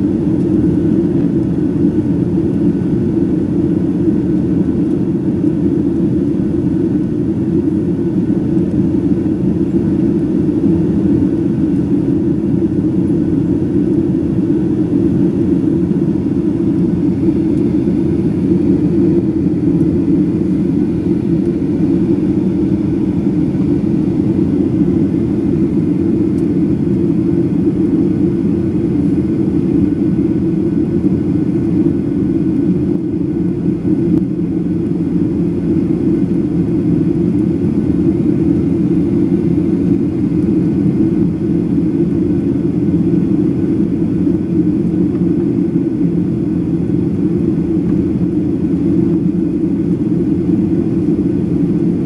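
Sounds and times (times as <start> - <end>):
airplane cabin rumble: 0.0 - 52.0.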